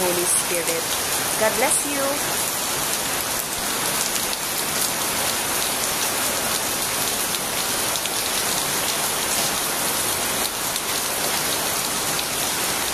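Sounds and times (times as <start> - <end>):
heavy rain pattering: 0.0 - 12.9.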